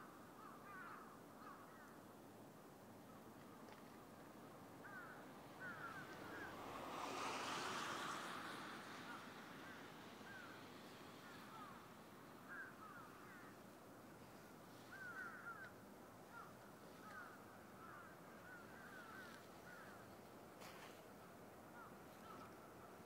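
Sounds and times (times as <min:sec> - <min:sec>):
background hiss: 0:00.0 - 0:23.0.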